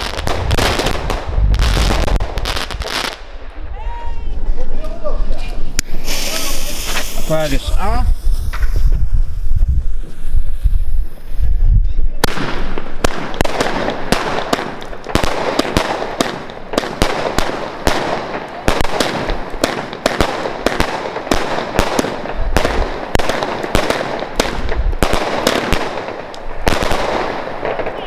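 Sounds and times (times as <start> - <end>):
fireworks shots and aerial bursts: 0.0 - 28.0.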